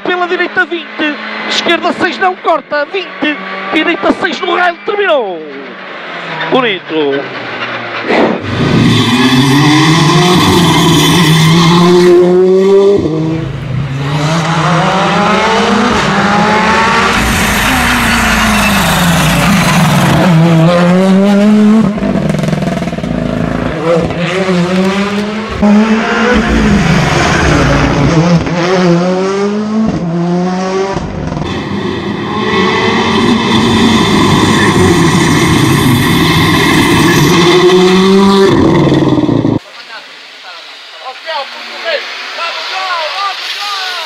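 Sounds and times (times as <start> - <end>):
rally car engine revving: 0.0 - 39.6.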